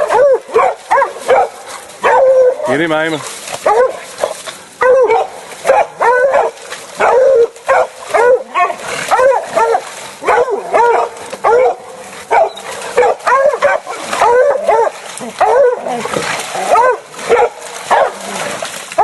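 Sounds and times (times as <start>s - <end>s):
dogs barking: 0.0s - 2.8s, 3.5s - 18.4s.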